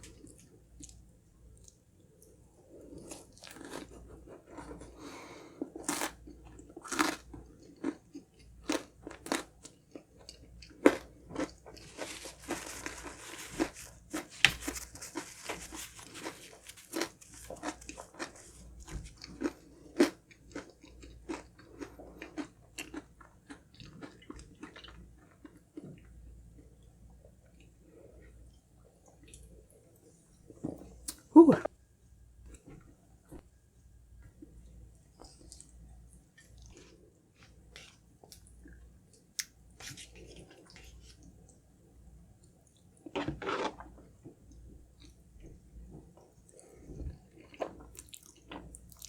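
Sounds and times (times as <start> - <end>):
chewing and crunching cake: 0.0 - 31.2, 34.4 - 49.0.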